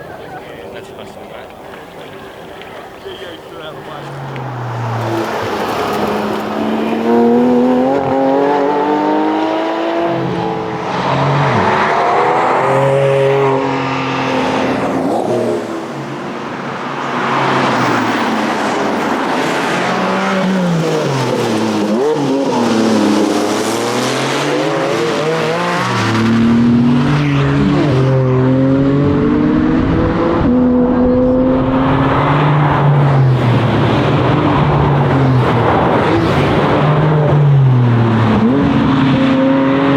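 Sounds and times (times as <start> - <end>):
sports car engine revving: 3.7 - 39.9.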